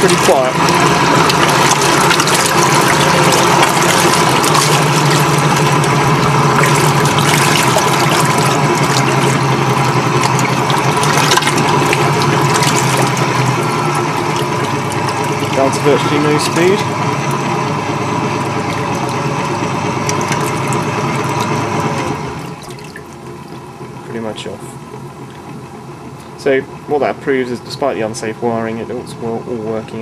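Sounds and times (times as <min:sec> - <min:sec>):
motor and gear whine: 0:00.0 - 0:30.0
propeller churning water: 0:00.0 - 0:30.0.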